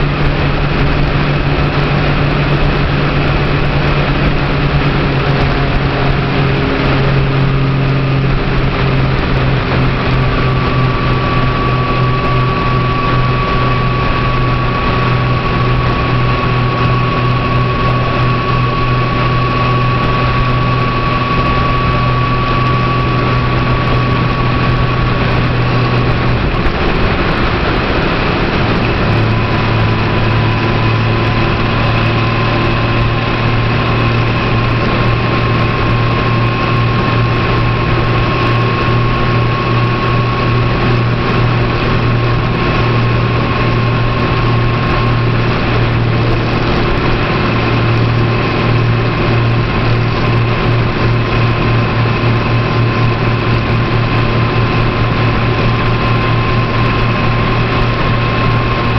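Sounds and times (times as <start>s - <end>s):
car engine drone: 0.0s - 58.9s
road noise inside car: 0.0s - 58.9s.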